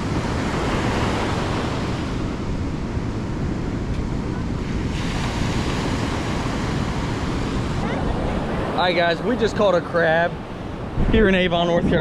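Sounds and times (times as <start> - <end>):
ocean surf washing onto beach: 0.0 - 12.0
wind rumbling on microphone: 0.0 - 12.0.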